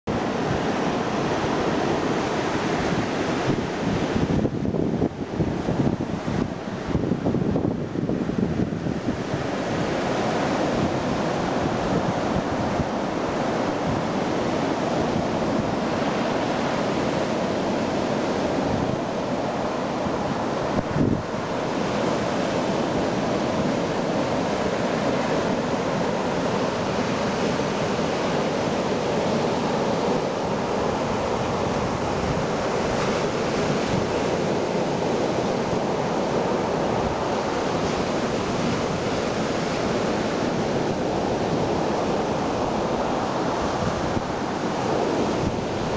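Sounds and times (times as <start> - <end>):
small waves washing up beach: 0.1 - 45.9
wind buffeting microphone: 0.1 - 45.9.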